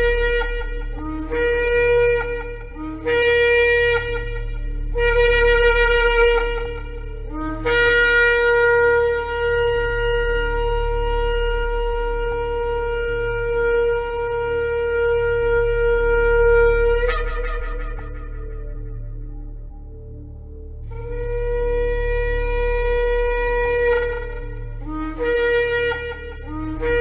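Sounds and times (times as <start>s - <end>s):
low steady hum: 0.0s - 27.0s
shofar blasts: 0.0s - 27.0s.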